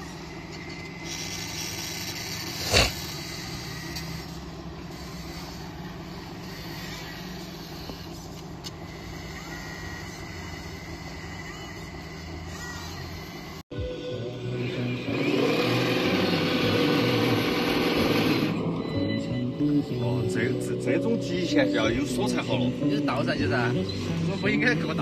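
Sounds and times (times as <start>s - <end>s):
hydraulic pumps humming: 0.0s - 25.0s.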